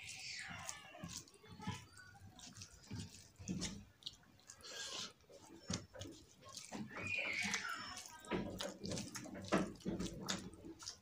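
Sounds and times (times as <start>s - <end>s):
chewing: 0.0s - 11.0s
fingers squishing rice on plate: 0.0s - 11.0s.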